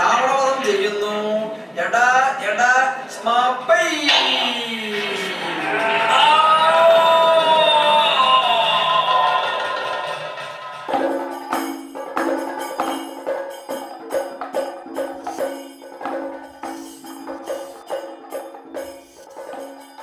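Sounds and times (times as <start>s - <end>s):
sharp percussion rhythm: 3.1s - 20.0s.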